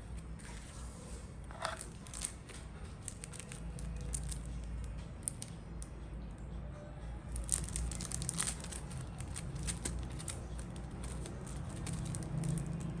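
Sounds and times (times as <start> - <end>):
packaging clicks and scrapes: 0.2 - 5.5, 7.4 - 13.0.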